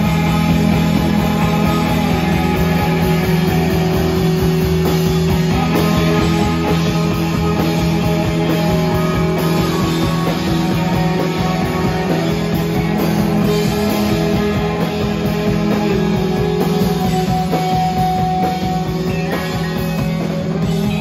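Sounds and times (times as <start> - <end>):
drum kit and cymbals: 0.0 - 21.0
electric guitars: 0.0 - 21.0.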